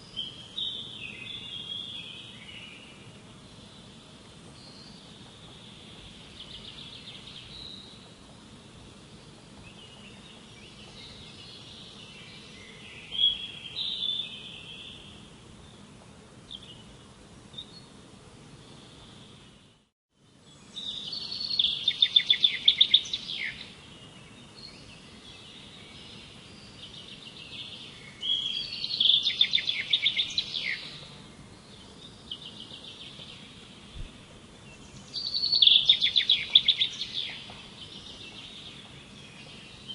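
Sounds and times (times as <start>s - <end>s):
faint outdoor background noise: 0.0s - 39.9s
songbirds singing: 0.0s - 39.9s.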